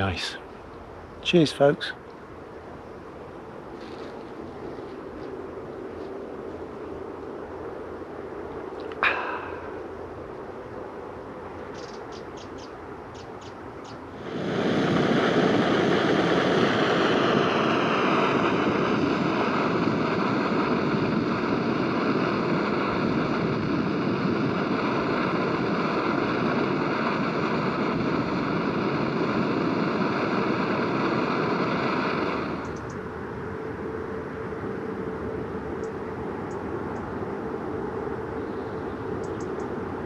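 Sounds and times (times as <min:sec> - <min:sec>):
gas stove burner roaring: 0:04.3 - 0:40.0.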